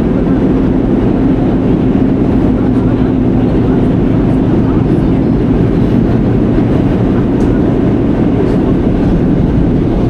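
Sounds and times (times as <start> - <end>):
subway train rumble: 0.0 - 10.0.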